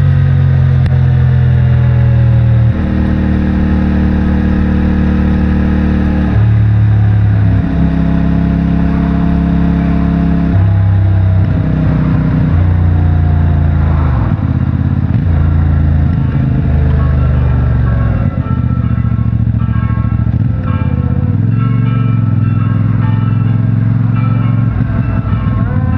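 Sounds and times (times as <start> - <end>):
motorcycle engine under way: 0.0 - 25.9.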